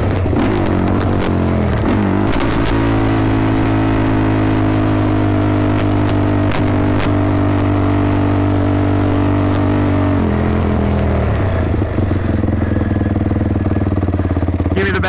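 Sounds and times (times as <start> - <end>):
atv engine revving and idling: 0.0 - 15.0.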